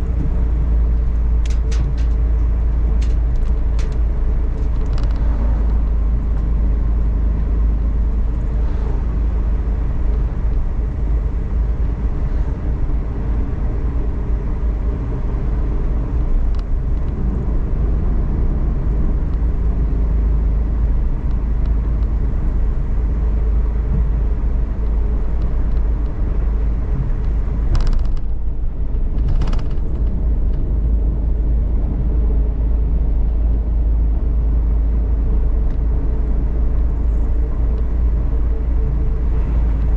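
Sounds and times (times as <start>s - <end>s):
engine hum: 0.0s - 39.9s
low road rumble: 0.0s - 39.9s.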